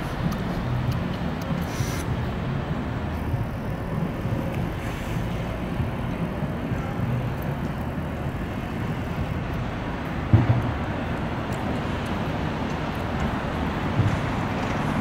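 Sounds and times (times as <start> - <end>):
low rumble of city noise: 0.0 - 15.0.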